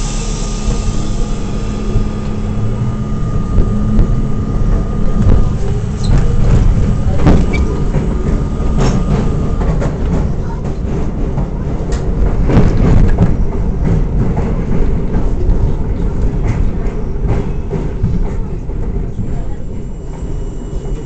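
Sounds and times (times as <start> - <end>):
steel wheels rumbling on rail: 0.0 - 21.0
wheels clacking over rail joints: 1.2 - 19.3.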